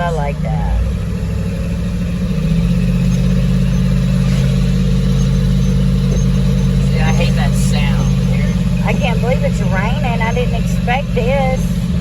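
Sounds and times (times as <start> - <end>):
road noise: 0.0 - 12.0
truck engine drone from cab: 0.0 - 12.0.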